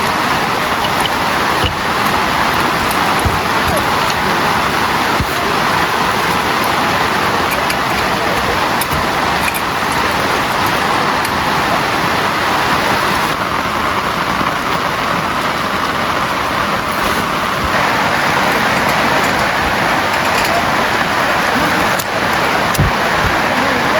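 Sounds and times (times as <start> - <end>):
heavy rain hissing: 0.0 - 23.9
rain drops ticking: 0.0 - 23.9.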